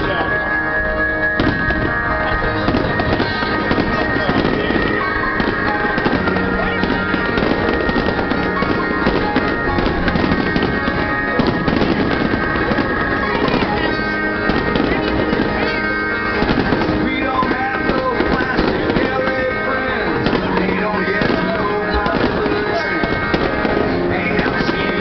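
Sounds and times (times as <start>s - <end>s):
fireworks popping and crackling: 0.0s - 25.0s
music playing: 0.0s - 25.0s.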